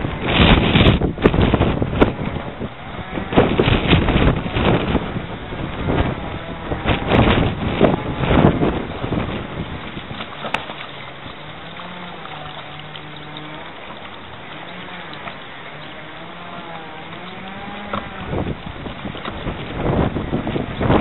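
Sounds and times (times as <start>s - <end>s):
small boat engine running: 0.0s - 21.0s
wind buffeting microphone: 0.0s - 21.0s.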